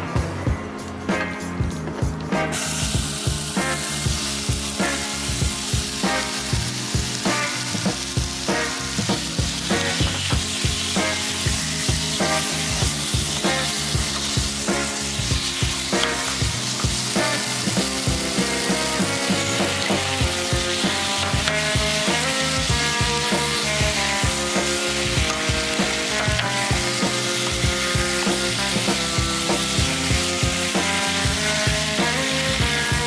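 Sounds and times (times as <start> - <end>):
background music with beat: 0.0 - 33.0
chicken sizzling in a pan: 2.4 - 33.0.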